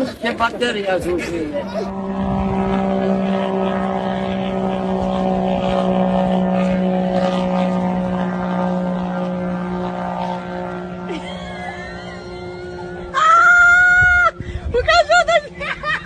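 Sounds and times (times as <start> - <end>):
steady motor drone: 0.0 - 16.0.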